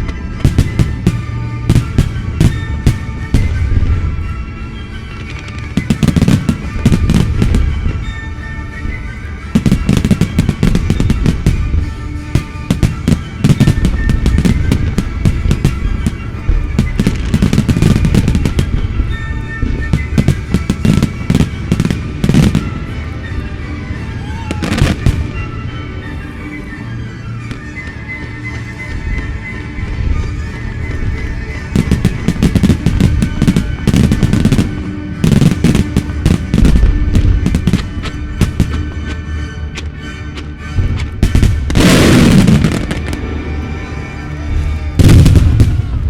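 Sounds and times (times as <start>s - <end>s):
fireworks bangs and crackles: 0.0s - 26.0s, 26.6s - 40.0s, 40.8s - 46.0s
music soundtrack: 0.0s - 46.0s.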